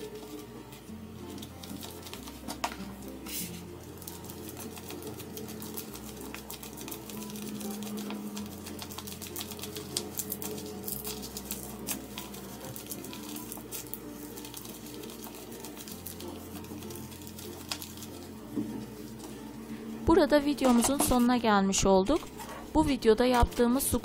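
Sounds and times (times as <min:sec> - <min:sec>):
paper squishy crinkling: 0:00.0 - 0:19.8, 0:20.4 - 0:24.0
faint background music: 0:00.0 - 0:24.0.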